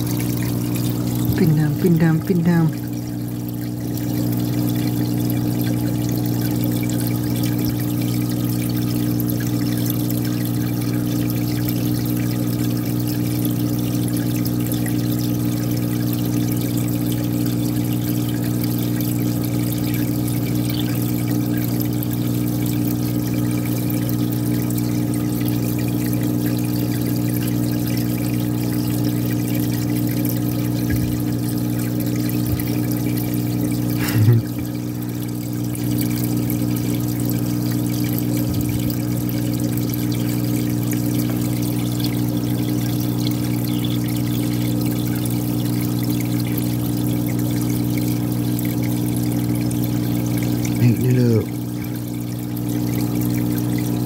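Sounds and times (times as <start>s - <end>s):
aquarium pump humming: 0.0s - 54.0s
water trickling: 0.0s - 54.0s.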